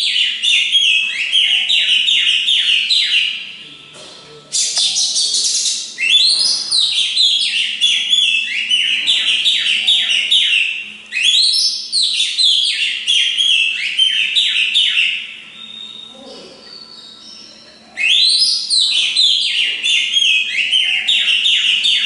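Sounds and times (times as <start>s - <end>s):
bird singing whistled song: 0.0s - 3.5s, 4.5s - 22.0s.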